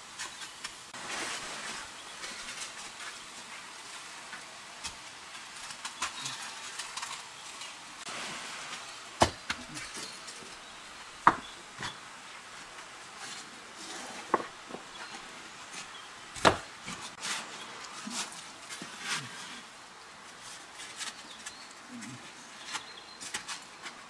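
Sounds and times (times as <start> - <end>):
campfire crackling: 0.0 - 22.1
dry leaves rustling: 0.0 - 24.0.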